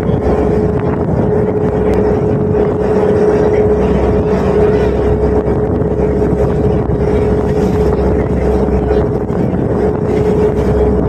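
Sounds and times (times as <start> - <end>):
ferry engine drone: 0.0 - 11.0
mid-pitched whine: 0.0 - 11.0.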